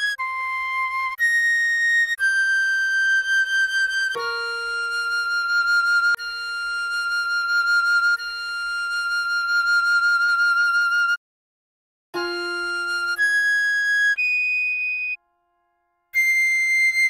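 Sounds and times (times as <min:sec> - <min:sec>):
recorder playing tune: 0:00.0 - 0:11.2, 0:12.2 - 0:15.2.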